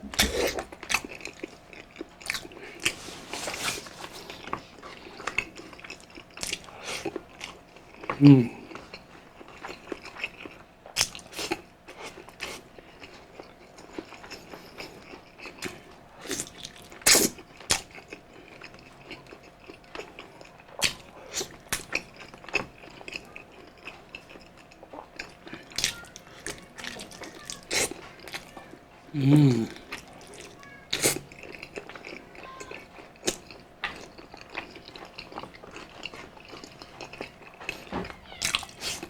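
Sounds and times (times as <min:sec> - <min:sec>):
person chewing and smacking: 0:00.0 - 0:39.0.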